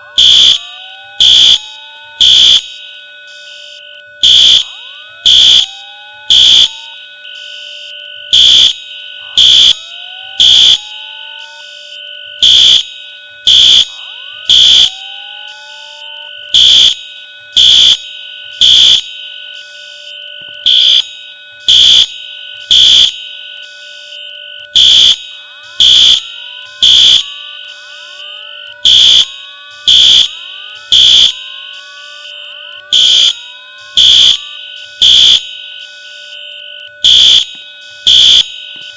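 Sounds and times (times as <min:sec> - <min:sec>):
fire alarm beeps: 0:00.0 - 0:38.9.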